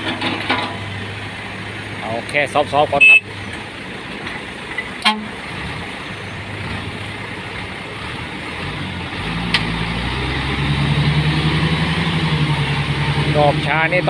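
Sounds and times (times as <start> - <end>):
truck diesel engine pulling away: 0.0 - 14.0.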